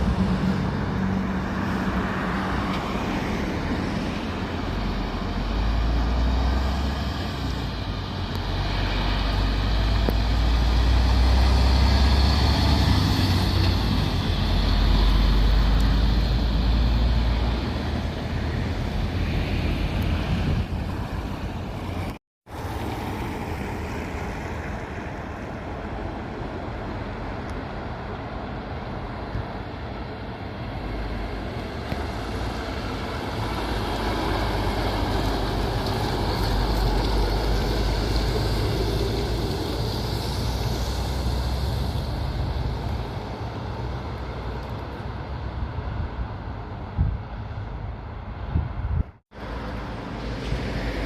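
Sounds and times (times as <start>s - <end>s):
heavy trucks driving past: 0.0s - 27.3s, 30.1s - 51.0s
traffic noise: 0.0s - 51.0s.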